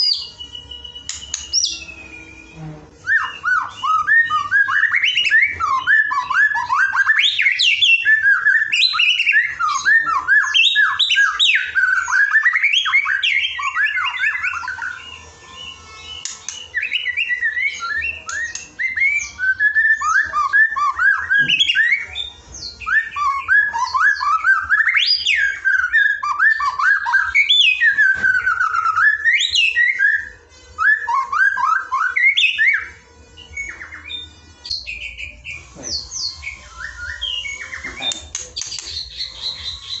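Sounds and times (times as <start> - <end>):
songbird rapid whistled song: 0.0 - 40.0.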